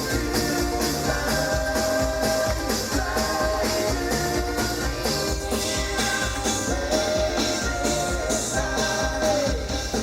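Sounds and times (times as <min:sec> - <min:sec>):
fast drum beat: 0:00.0 - 0:10.0.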